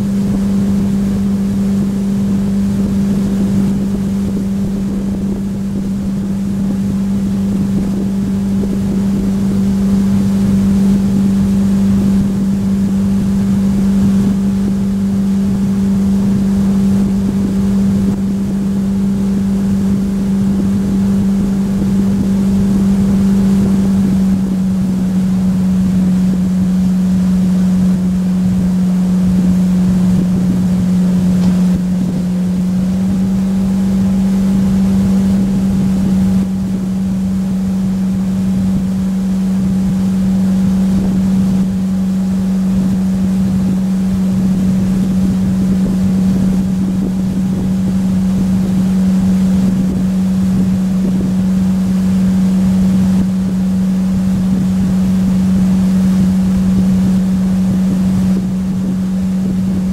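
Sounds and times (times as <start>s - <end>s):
motorboat engine running: 0.0s - 59.9s
rushing water: 0.0s - 59.9s
wind on microphone: 0.0s - 59.9s.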